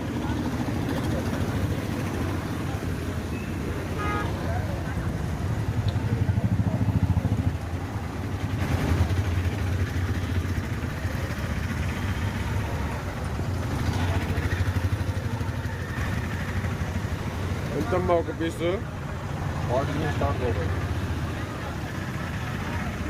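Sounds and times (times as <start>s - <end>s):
street noise: 0.0s - 23.0s.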